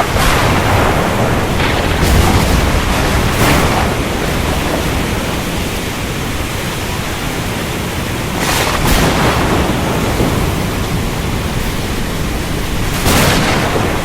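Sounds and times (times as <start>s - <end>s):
rain: 0.0s - 14.0s
surf: 0.0s - 14.0s.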